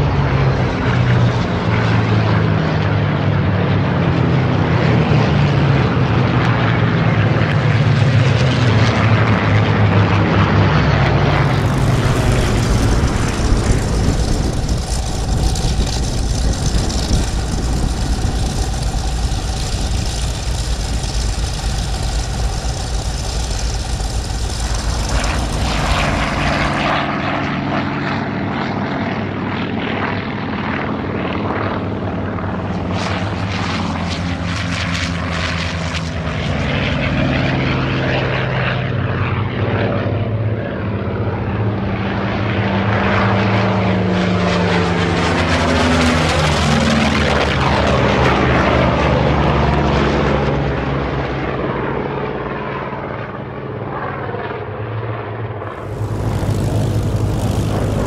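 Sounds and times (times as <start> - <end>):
aircraft engine at take-off power: 0.0 - 58.0
radial aircraft engine running: 0.0 - 58.0.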